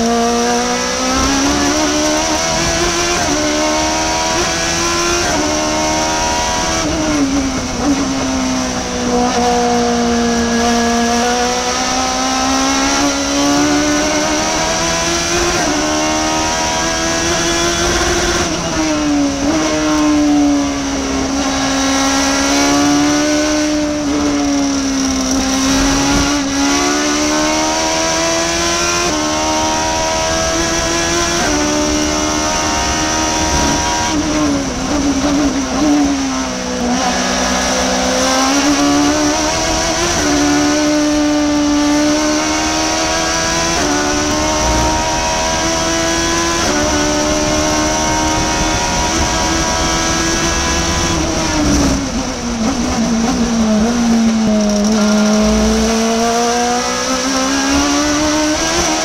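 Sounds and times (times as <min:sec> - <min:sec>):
race car engine at speed: 0:00.0 - 0:59.0.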